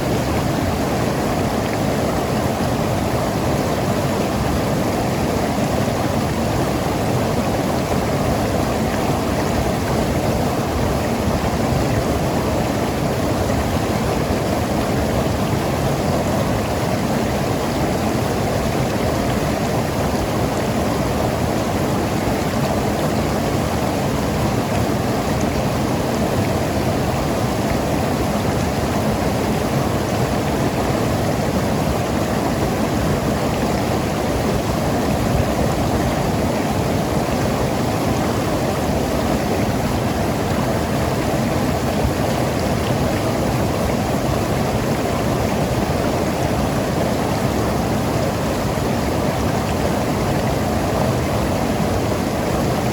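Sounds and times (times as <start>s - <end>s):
river flowing over rocks: 0.0s - 52.9s.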